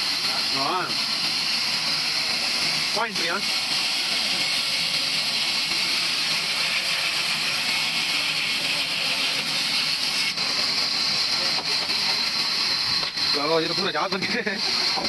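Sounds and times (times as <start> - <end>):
sawmill machinery hissing: 0.0 - 15.0.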